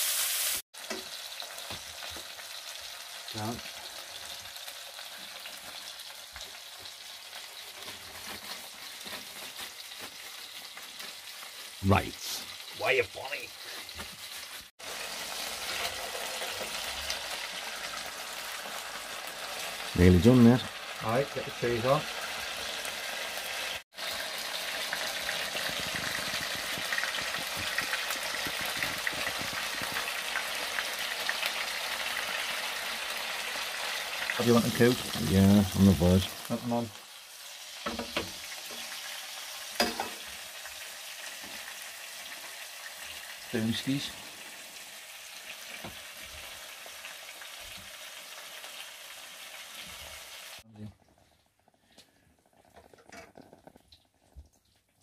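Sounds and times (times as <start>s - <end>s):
patties sizzling in a frying pan: 0.0s - 55.0s.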